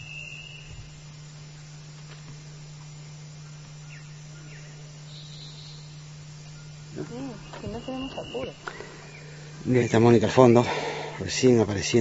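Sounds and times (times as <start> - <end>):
background hiss: 0.0 - 12.0
low hum: 0.0 - 12.0.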